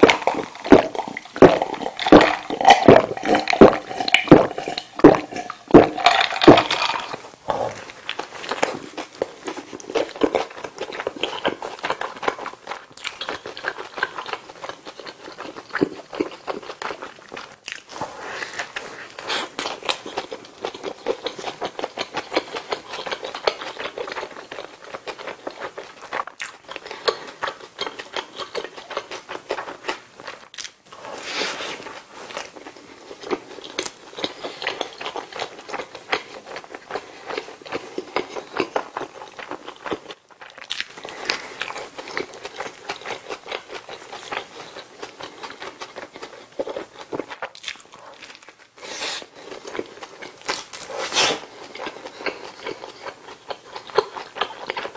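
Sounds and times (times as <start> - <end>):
close chewing of a burger: 0.0 - 54.9.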